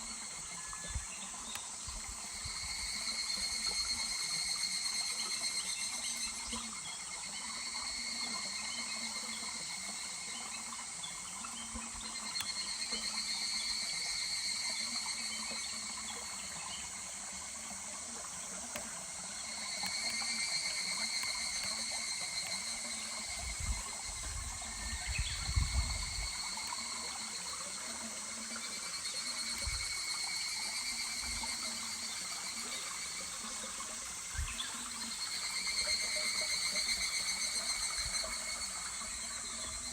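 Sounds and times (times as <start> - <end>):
babbling mountain stream: 0.0 - 39.9
cicadas trilling: 0.0 - 39.9.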